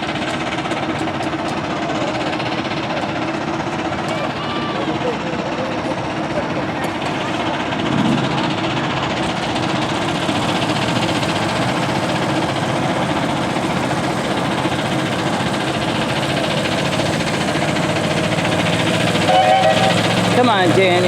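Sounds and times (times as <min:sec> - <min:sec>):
garden tractor engine running: 0:00.0 - 0:21.0.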